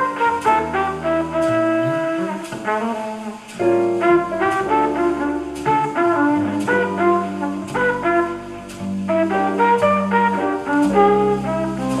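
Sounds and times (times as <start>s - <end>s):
horn melody: 0.0s - 12.0s
sustained bass notes: 0.0s - 12.0s.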